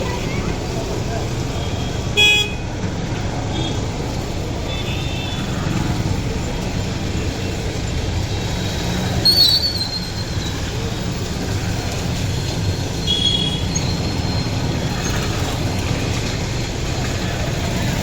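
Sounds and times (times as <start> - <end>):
heavy vehicles on wet road: 0.0 - 18.0.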